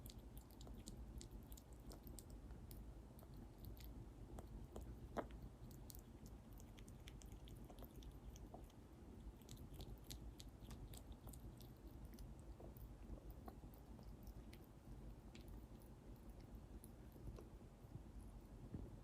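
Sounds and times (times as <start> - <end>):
animal chewing: 0.0 - 17.9.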